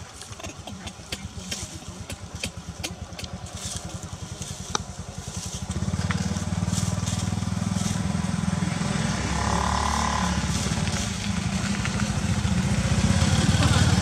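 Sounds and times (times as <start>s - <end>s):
dry leaves crackling: 0.0s - 13.8s
small engine running: 1.2s - 14.0s.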